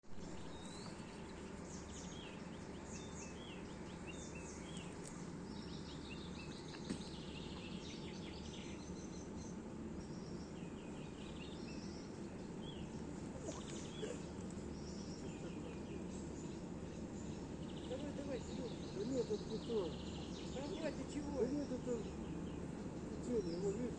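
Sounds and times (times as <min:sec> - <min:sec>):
songbirds chirping and trilling: 0:00.0 - 0:23.9.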